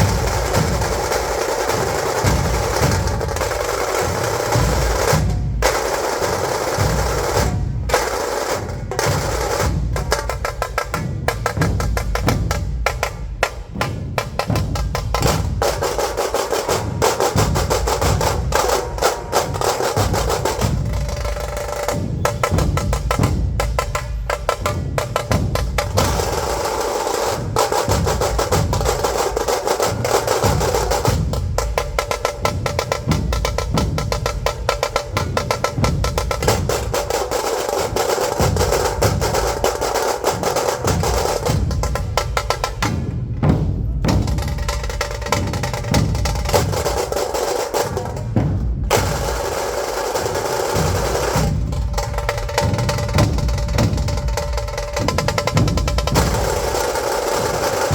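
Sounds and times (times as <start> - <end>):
barrel drums beating: 0.0 - 57.9
sharp snare-like drums beating: 0.0 - 57.9.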